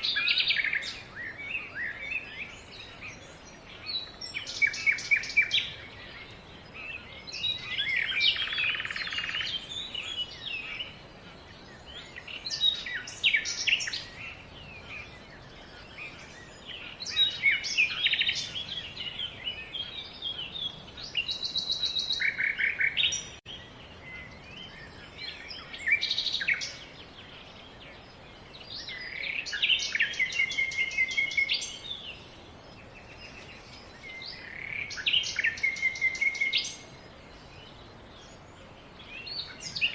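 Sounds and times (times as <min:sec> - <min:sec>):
songbird singing with trills: 0:00.0 - 0:39.9.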